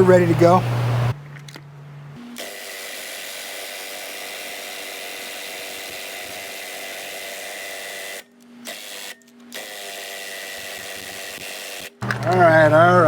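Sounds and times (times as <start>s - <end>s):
impact wrench running: 2.4s - 13.0s.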